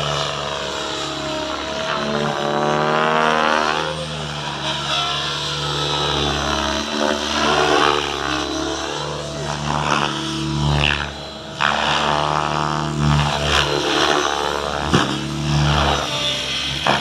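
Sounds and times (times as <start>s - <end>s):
model helicopter engine and rotor whine: 0.0s - 17.0s.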